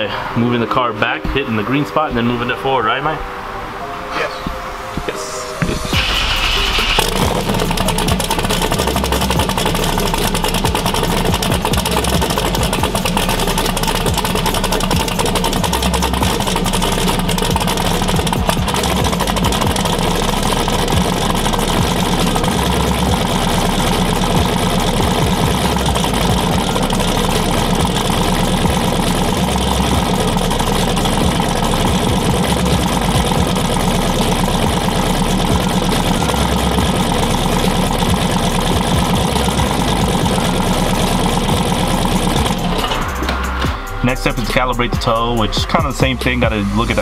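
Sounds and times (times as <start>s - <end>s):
car engine idling: 5.8s - 47.0s.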